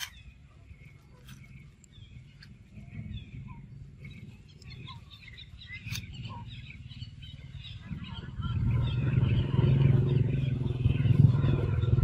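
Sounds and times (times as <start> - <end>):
small birds chirping: 0.0 - 12.0
low engine hum: 0.1 - 12.0.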